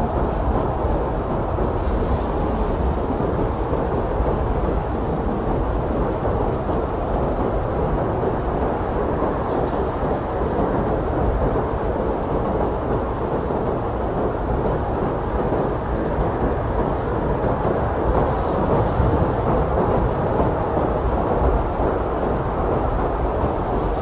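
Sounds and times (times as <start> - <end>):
blizzard wind blowing: 0.0 - 24.0.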